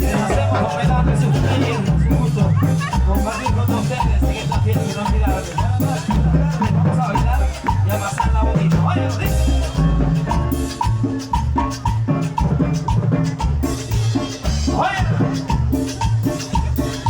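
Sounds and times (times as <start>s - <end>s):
driving bass line: 0.0s - 17.0s
drum kit: 0.0s - 17.0s
latin percussion: 0.0s - 17.0s.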